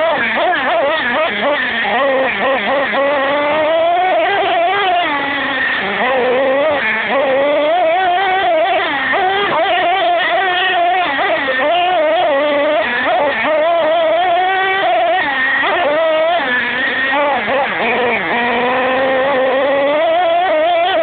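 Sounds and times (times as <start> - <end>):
nitro engine high-pitched whine: 0.0 - 21.0.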